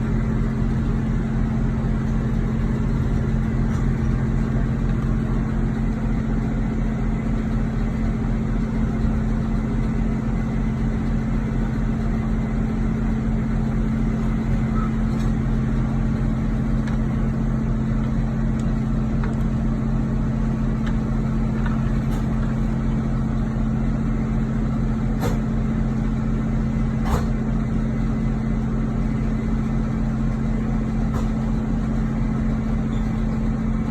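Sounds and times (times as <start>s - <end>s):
vehicle engine idling hum: 0.0s - 33.9s.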